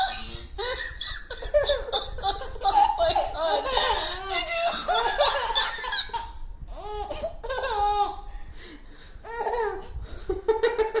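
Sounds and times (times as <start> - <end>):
baby laughing: 0.0 - 8.2, 9.3 - 9.9.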